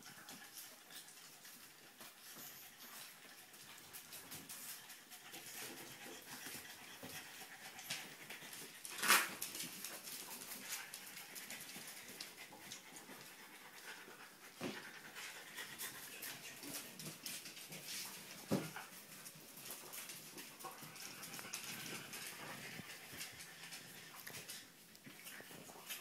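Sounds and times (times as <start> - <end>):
paws and ball on wooden floor: 0.0 - 26.0
puppies playing: 0.0 - 26.0.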